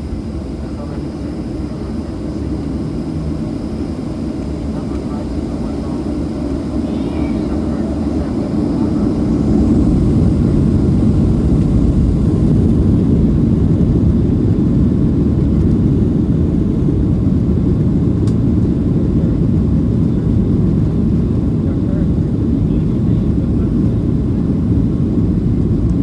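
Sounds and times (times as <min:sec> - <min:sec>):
jet engine cabin rumble: 0:00.0 - 0:26.0.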